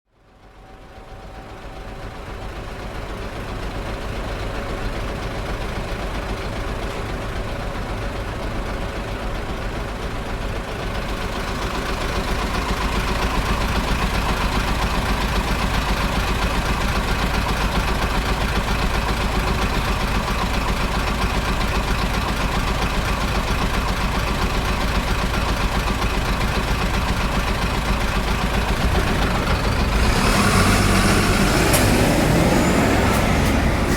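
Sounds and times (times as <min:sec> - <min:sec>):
bus engine running: 0:00.2 - 0:33.9
traffic: 0:00.2 - 0:33.9.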